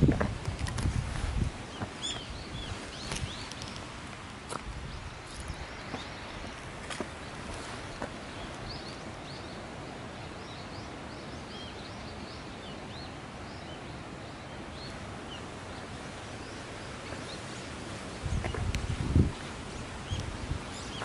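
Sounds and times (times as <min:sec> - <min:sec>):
outdoor background hiss: 0:00.0 - 0:21.0
small birds chirping: 0:01.3 - 0:21.0.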